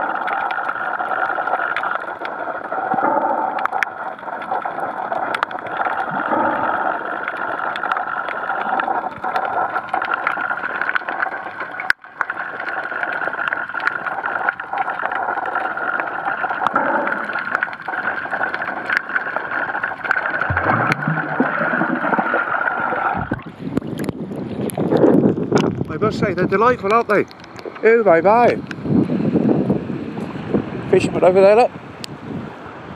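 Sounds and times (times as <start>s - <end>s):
muffled underwater water noise: 0.0s - 32.9s.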